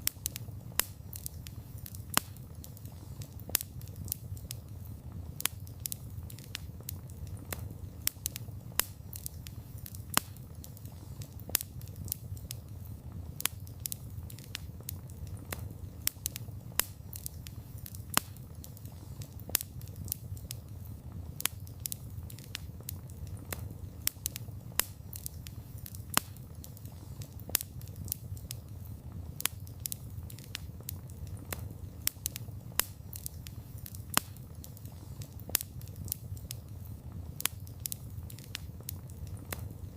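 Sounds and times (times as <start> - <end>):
campfire crackling: 0.0 - 39.9
low steady rumble: 0.0 - 39.9.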